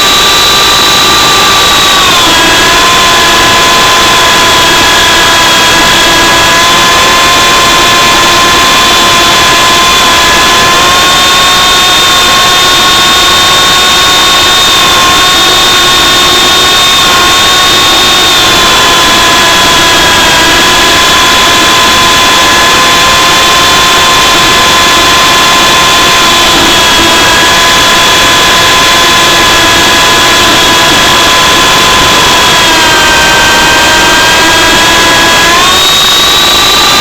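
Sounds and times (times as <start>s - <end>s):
toy helicopter motor whine: 0.0s - 37.0s.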